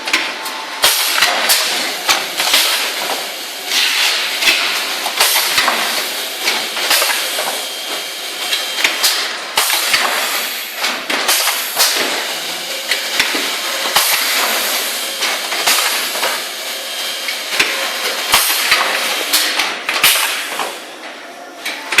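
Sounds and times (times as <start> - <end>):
machine clacks and knocks: 0.0 - 16.5, 17.2 - 20.8
machine hissing: 0.8 - 21.0.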